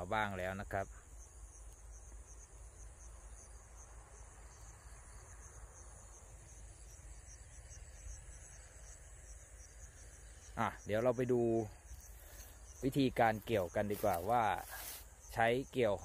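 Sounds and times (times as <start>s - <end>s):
insects chirping trill: 0.0s - 16.0s.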